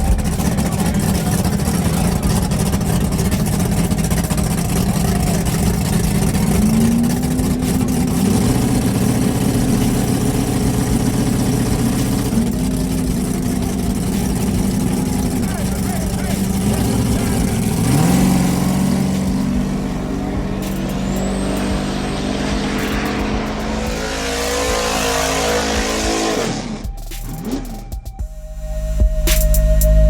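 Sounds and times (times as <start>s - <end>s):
race car engines idling: 0.0s - 28.1s.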